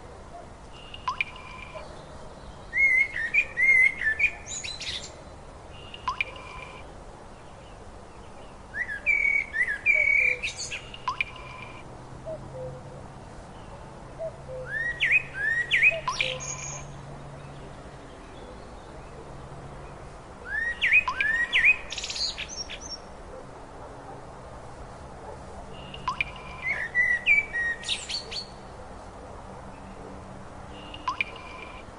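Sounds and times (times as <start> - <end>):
songbird chirping and trilling: 0.0 - 23.2, 25.4 - 29.1, 29.7 - 31.9.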